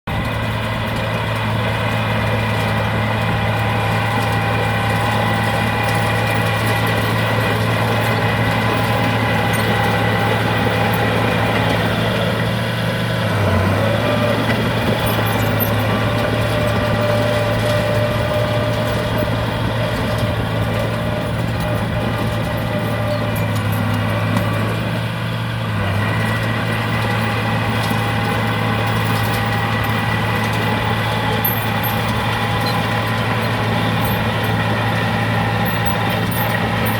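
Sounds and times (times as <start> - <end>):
diesel engine running: 0.0 - 36.9
engine whine: 0.0 - 36.9.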